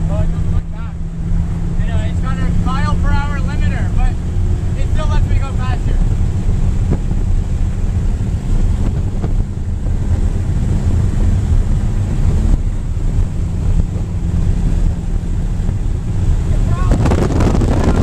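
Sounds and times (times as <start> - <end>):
road and engine drone: 0.0 - 18.0
wind buffeting microphone: 0.0 - 18.0.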